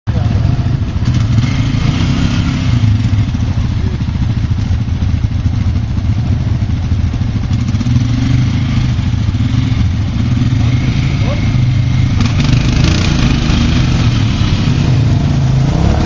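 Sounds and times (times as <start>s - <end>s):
engines running at low revs: 0.1s - 16.0s.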